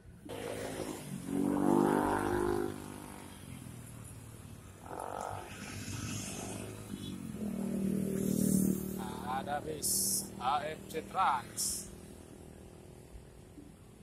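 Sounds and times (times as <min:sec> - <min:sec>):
steady traffic noise: 0:00.0 - 0:14.0
vehicles passing: 0:00.0 - 0:14.0.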